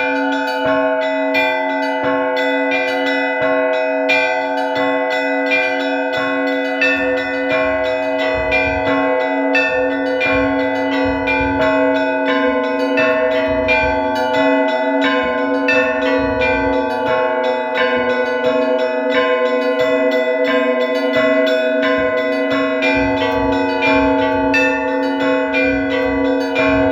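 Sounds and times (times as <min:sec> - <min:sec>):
church bells ringing: 0:00.0 - 0:26.9
low hum of large bell: 0:00.0 - 0:26.9.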